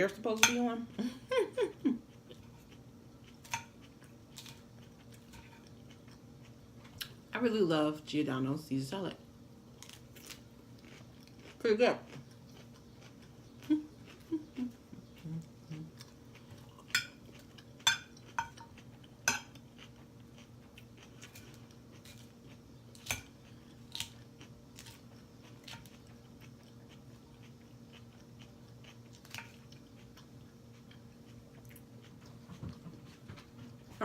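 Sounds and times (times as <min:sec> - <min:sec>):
soft chewing and crunching: 0:00.0 - 0:07.3, 0:09.7 - 0:34.0
steady low hum: 0:00.0 - 0:34.0.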